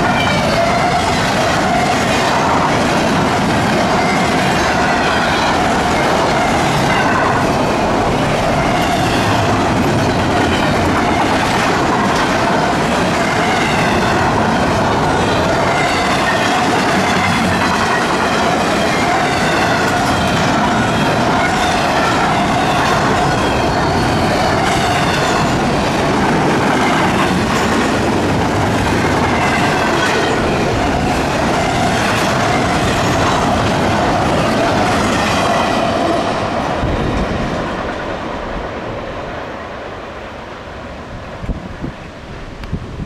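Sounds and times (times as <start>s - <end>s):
clickety-clack over rail joints: 0.0s - 39.9s
train wheels rumbling on rail: 0.0s - 43.0s.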